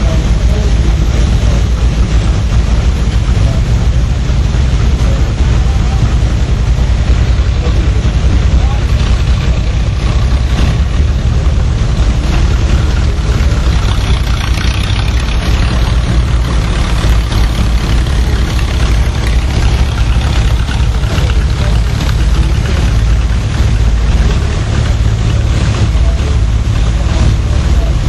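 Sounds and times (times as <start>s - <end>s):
threshing machinery running: 0.0s - 28.0s.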